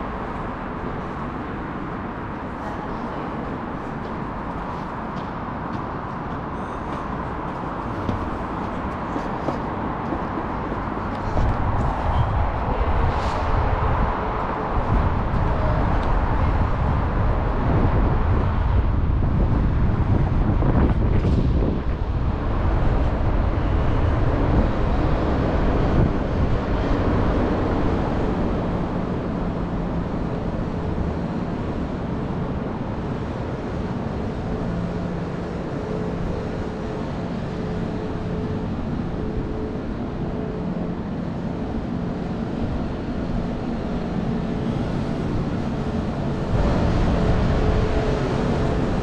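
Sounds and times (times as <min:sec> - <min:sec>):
faint engine hum: 0:00.0 - 0:49.0
traffic rumble: 0:00.0 - 0:49.0.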